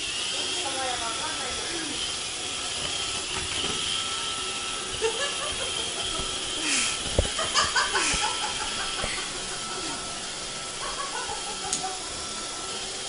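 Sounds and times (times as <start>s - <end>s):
robot vacuum cleaner running: 0.0s - 13.0s.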